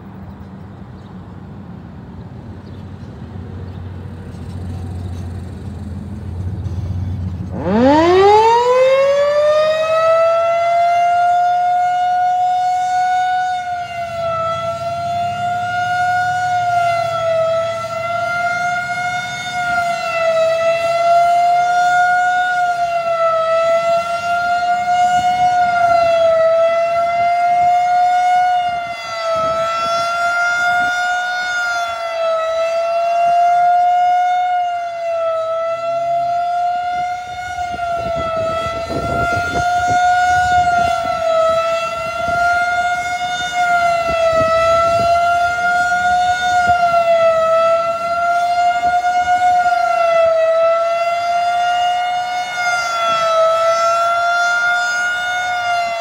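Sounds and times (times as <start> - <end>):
rotating warning siren: 4.0 - 56.0.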